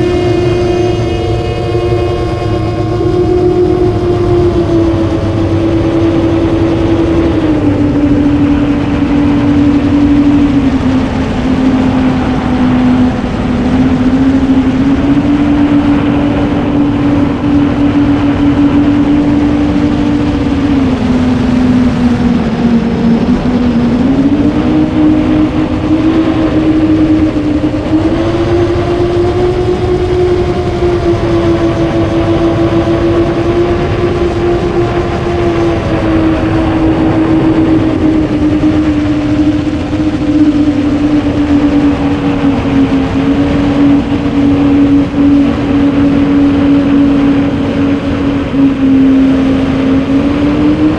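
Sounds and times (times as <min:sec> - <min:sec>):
quadcopter motors buzzing: 0:00.0 - 0:50.9.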